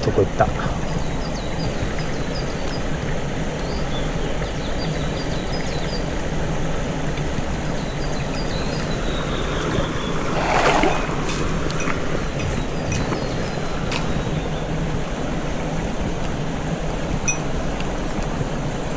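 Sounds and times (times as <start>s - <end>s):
stream rushing over rocks: 0.0s - 18.9s.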